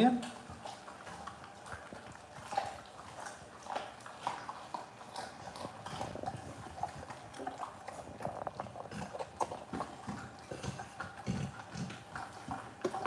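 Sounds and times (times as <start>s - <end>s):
dog chewing meat and bone: 0.0s - 13.0s.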